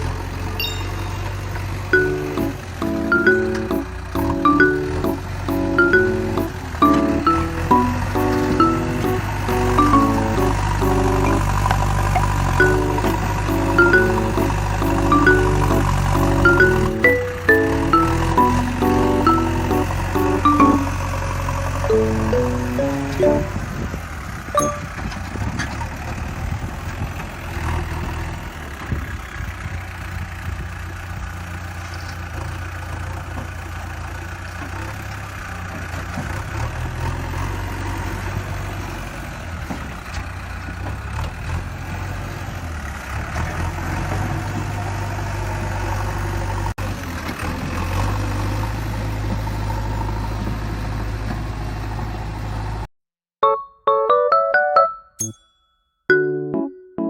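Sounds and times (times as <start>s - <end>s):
vehicle engine rumbling: 0.0s - 52.9s.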